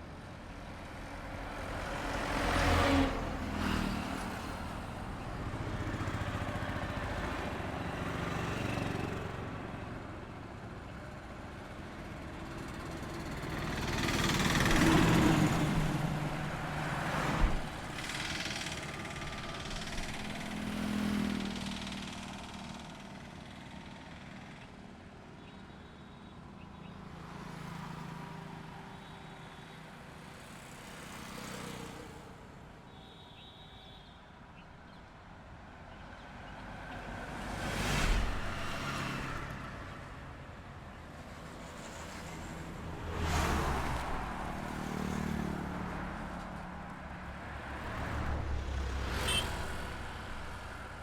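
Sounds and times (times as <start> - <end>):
highway traffic passing: 0.0 - 25.3, 26.4 - 32.9, 34.4 - 51.0.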